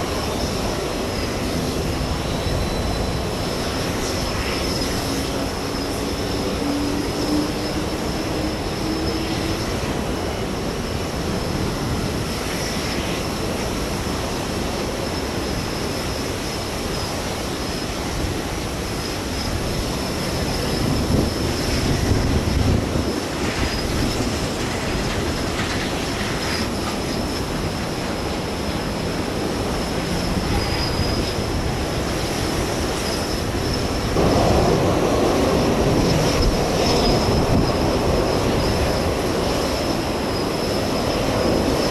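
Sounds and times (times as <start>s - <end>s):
jet engine noise: 0.0s - 41.9s
thin high whine: 0.0s - 41.9s
wind rumbling on microphone: 0.0s - 41.9s.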